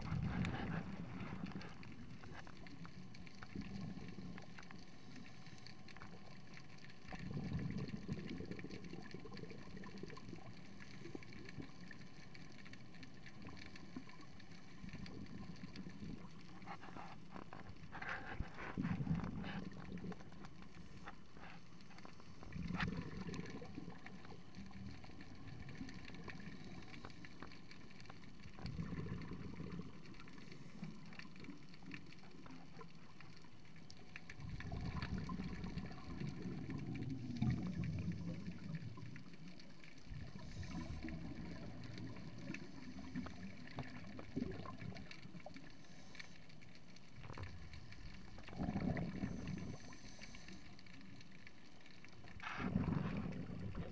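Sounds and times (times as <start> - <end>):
faint underwater hiss: 0.0 - 53.9
low underwater rumble: 0.0 - 53.9.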